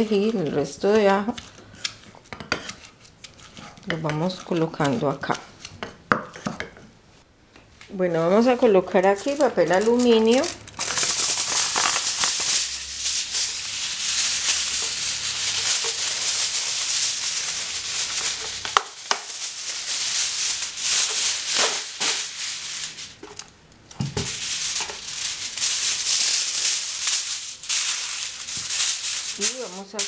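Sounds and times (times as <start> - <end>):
aluminium foil crinkling: 0.0 - 5.8, 7.9 - 30.0.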